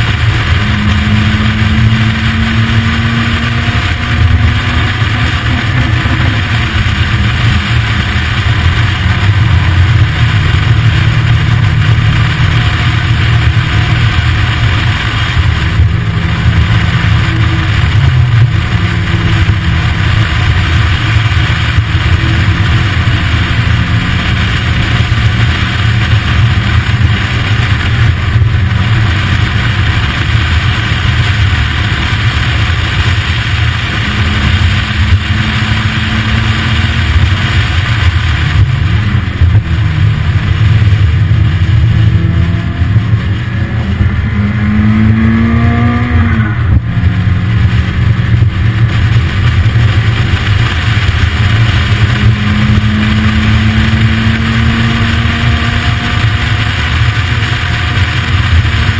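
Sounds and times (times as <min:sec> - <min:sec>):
sports car engine under load: 0:00.0 - 0:58.9
wind and road noise: 0:00.0 - 0:58.9.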